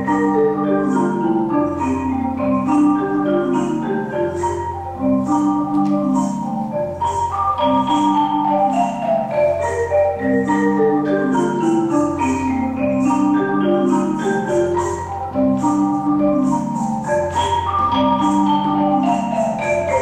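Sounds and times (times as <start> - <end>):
marimbas playing: 0.0 - 20.0.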